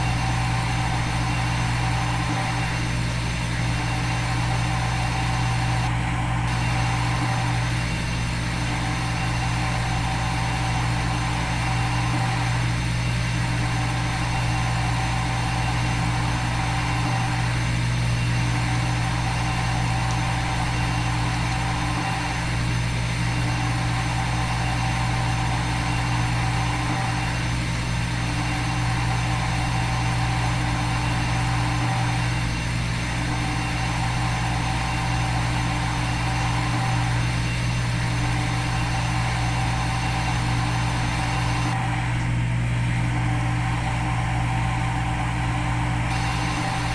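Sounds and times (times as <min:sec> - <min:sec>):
machine motor and spindle hum: 0:00.0 - 0:46.9.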